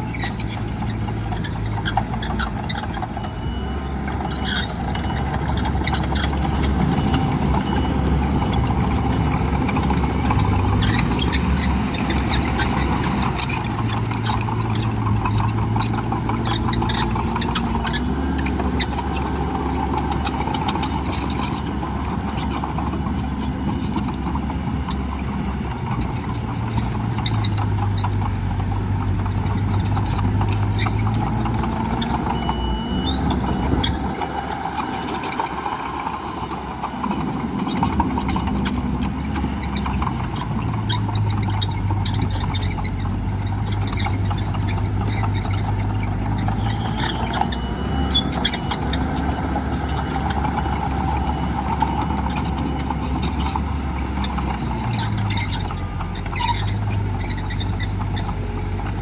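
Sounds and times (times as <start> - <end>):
heavy diesel engines working: 0.0 - 59.0
steady rattle: 0.0 - 59.0.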